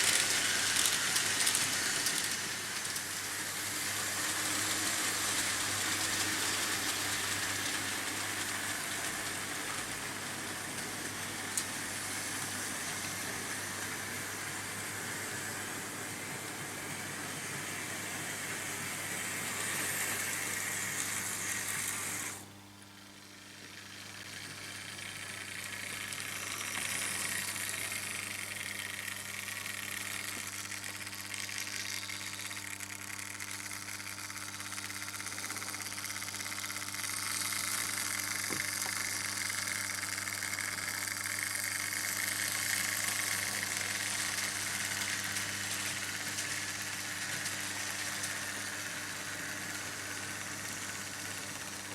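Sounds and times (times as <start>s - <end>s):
model train motors whirring and rattling: 0.0s - 51.9s.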